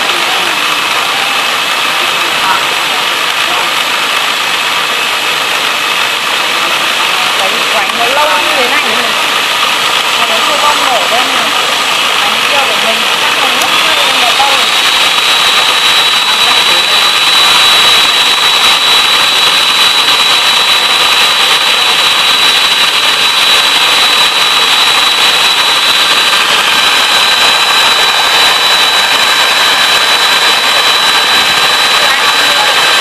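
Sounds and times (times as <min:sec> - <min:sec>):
electric mixer whirring: 0:00.0 - 0:33.0.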